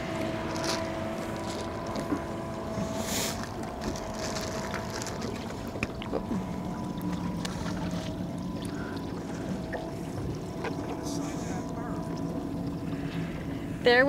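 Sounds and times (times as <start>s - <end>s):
faint steady tones: 0.0s - 14.0s
steady low hum: 0.0s - 14.0s.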